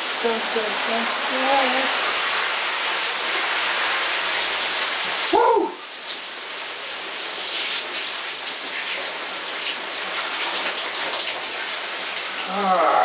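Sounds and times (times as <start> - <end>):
shower water spray hissing: 0.0 - 13.0.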